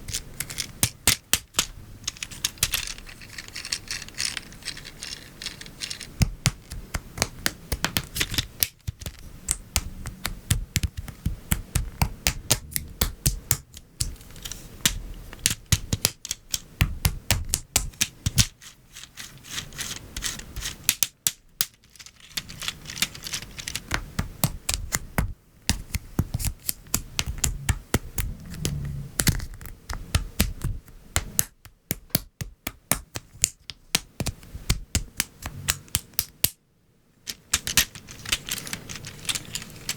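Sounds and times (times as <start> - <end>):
plastic pieces clicking together: 0.0 - 36.6, 37.3 - 39.9.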